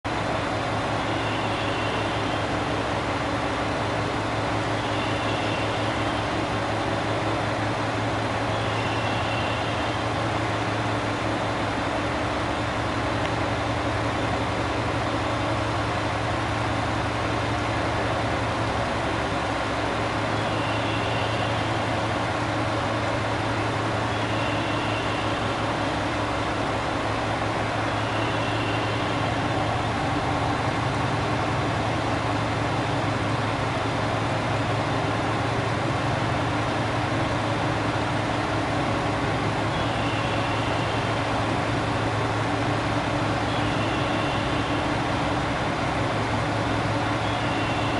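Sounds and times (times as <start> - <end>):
diesel engine idling: 0.0 - 47.9
steady rain: 0.1 - 47.9.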